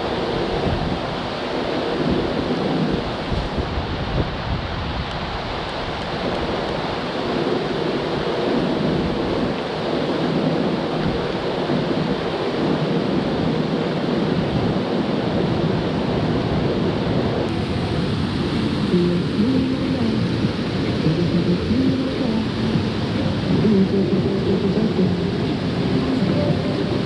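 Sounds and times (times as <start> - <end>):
rush of flowing water: 0.0 - 27.0.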